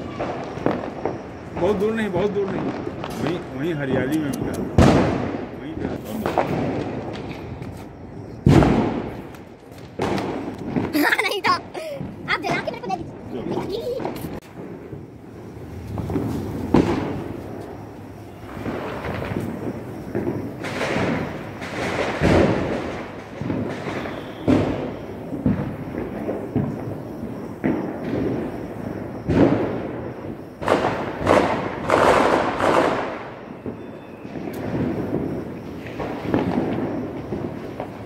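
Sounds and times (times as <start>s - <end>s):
firework hissing and crackling: 0.0s - 38.0s
fireworks bangs and thuds: 0.0s - 38.0s.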